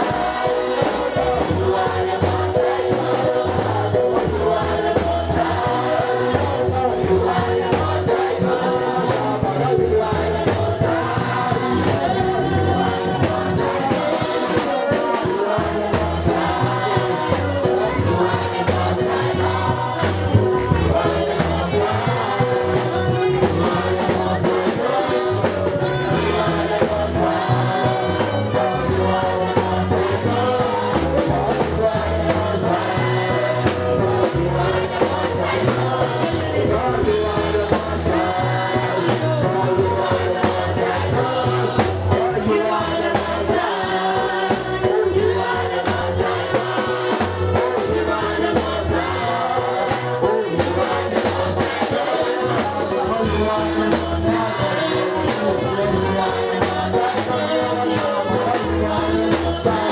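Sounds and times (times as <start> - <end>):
choir singing gospel song: 0.0 - 59.9
instrumental backing: 0.0 - 59.9.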